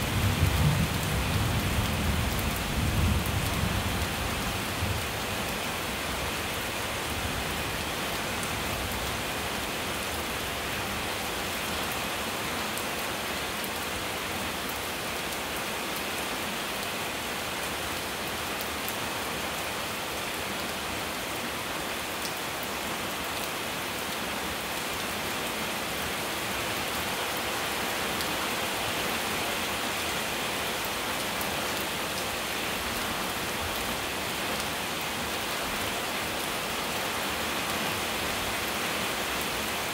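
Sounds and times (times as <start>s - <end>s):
rain on pavement and leaves: 0.0s - 39.9s.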